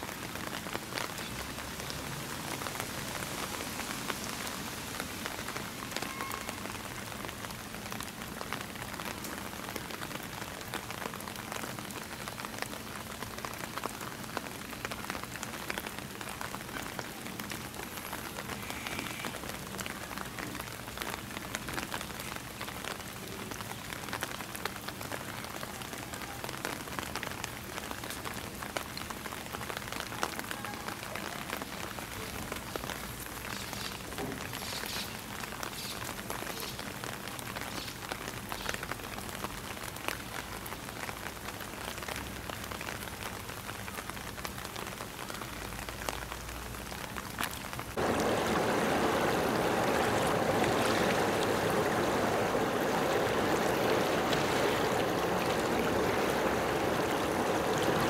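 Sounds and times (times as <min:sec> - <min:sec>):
rushing water: 0:00.0 - 0:58.0
steady rain falling: 0:00.0 - 0:58.0.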